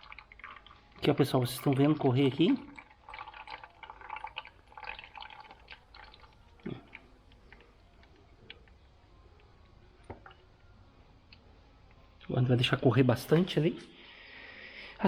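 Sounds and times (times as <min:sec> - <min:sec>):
fluid trickling and dripping: 0:00.0 - 0:13.5.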